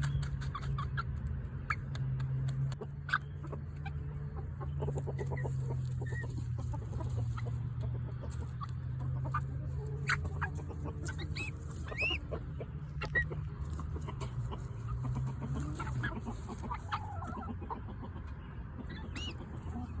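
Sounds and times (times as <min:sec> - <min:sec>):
chick clucking and chirping: 0:00.0 - 0:20.0.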